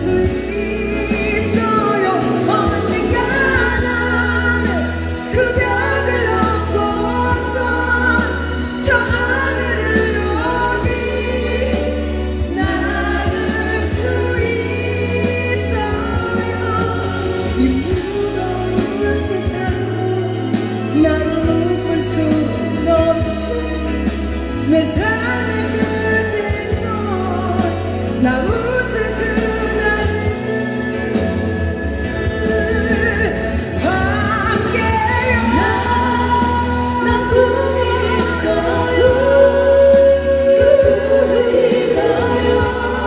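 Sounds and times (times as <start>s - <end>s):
band with bass and drums: 0.0s - 43.0s
woman singing: 0.0s - 43.0s.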